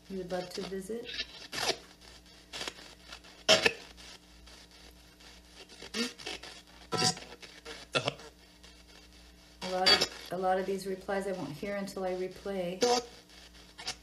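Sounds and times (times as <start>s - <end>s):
radio fragments and static bursts: 0.0s - 14.0s.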